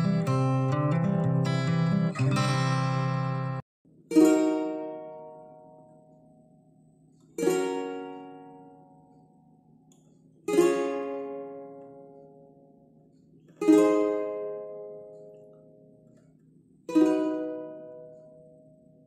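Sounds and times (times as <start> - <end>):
ukulele strums: 0.0 - 6.5, 7.2 - 9.4, 10.0 - 12.6, 13.4 - 19.0.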